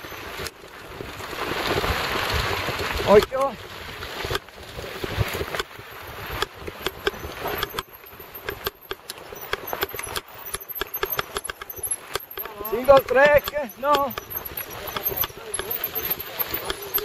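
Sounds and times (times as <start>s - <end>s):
mountain bike rattling on dirt trail: 0.0s - 17.0s.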